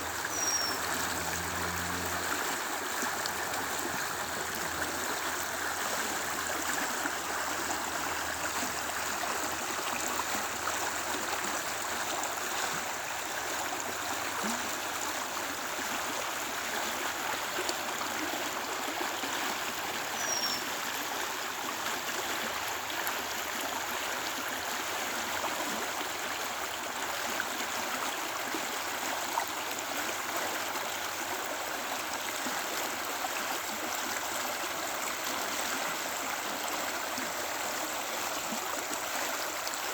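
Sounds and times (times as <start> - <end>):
creek water rushing and gurgling: 0.0 - 39.9.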